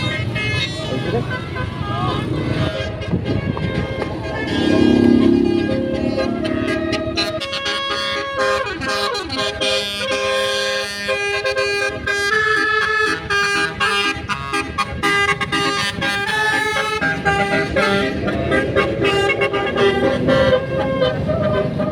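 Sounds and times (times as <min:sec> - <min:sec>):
musical air horn playing a tune: 0:00.0 - 0:21.9.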